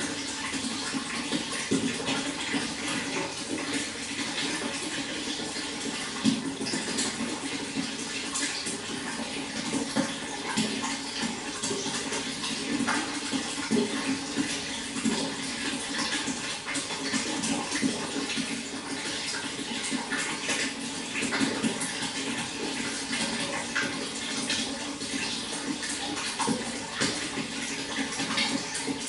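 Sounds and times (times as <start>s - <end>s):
running water flowing: 0.0s - 29.0s.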